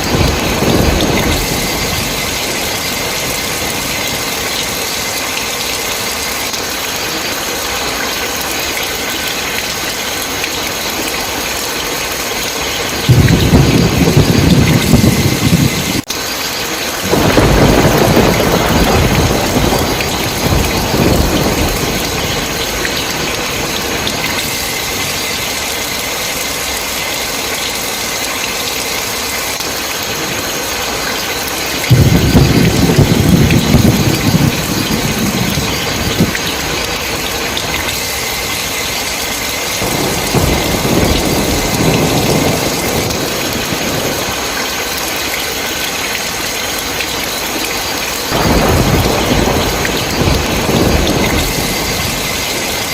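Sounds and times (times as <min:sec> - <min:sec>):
heavy rain: 0:00.0 - 0:52.9
thunder rumbling: 0:00.0 - 0:52.9.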